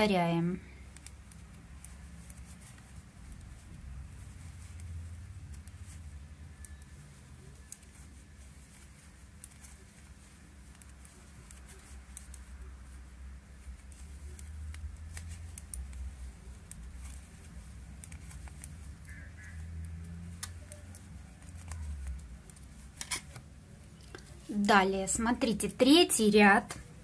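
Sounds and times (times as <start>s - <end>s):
low rumble of hands handling: 0.6s - 24.5s
metal knitting needles clicking: 0.7s - 24.4s.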